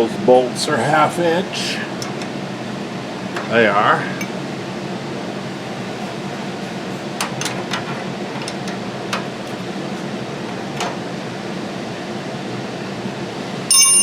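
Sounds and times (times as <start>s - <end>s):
steady fan-like hum: 0.0s - 14.0s.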